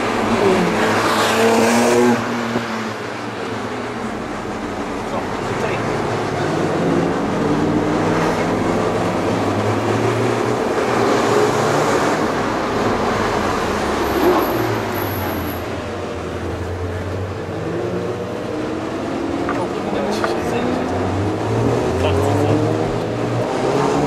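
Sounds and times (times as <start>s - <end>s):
tyre and road noise: 0.0s - 24.0s.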